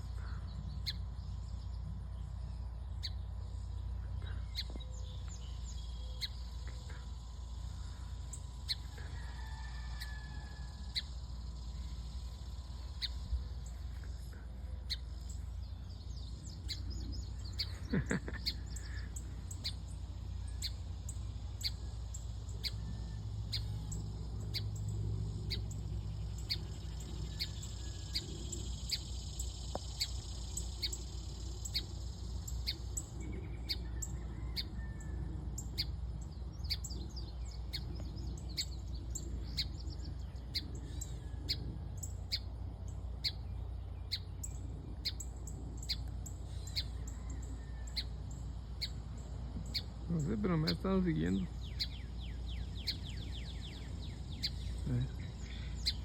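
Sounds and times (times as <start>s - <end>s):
bird chirping: 0.0s - 10.1s, 10.7s - 56.0s
cicadas buzzing: 0.0s - 56.0s
low steady rumble: 0.0s - 56.0s.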